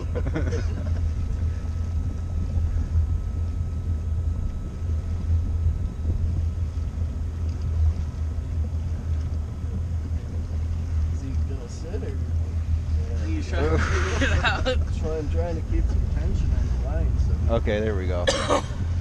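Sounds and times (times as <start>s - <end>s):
boat engine drone: 0.0s - 19.0s
faint high whine: 0.0s - 19.0s.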